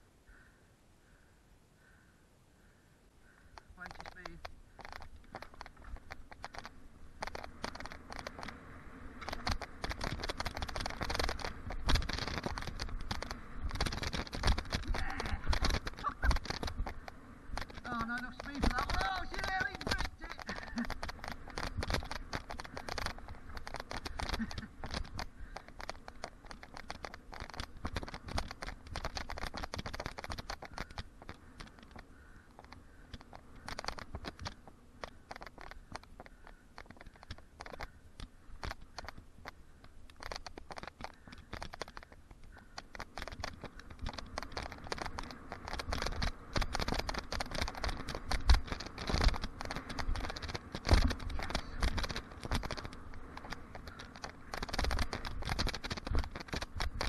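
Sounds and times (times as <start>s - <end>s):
bike chain and frame rattling: 3.7s - 57.0s
tyres crunching on gravelly soil: 5.1s - 38.0s, 38.6s - 57.0s.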